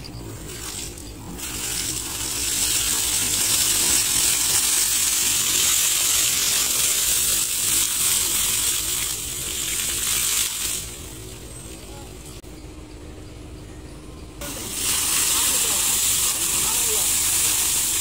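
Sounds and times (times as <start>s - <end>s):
hissing gush of water spray: 0.2s - 11.9s, 14.4s - 18.0s.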